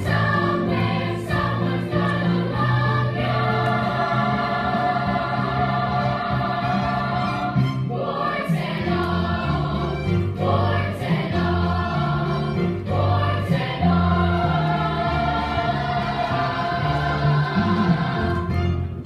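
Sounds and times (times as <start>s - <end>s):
group singing musical song: 0.0s - 19.0s
instrumental accompaniment: 0.0s - 19.0s.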